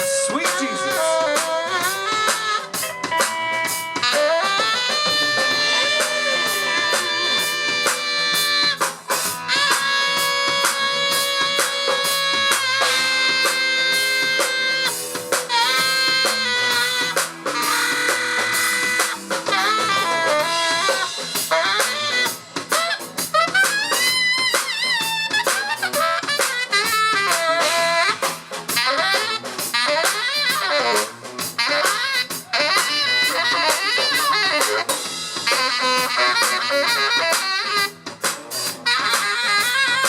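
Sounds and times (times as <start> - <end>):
drum kit: 0.0 - 40.0
saxophone lead with wavering notes: 0.0 - 40.0.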